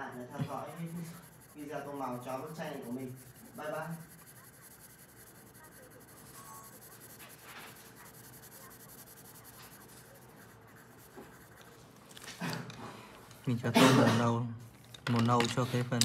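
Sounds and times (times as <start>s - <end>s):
pencil scratching on paper: 0.0s - 16.0s.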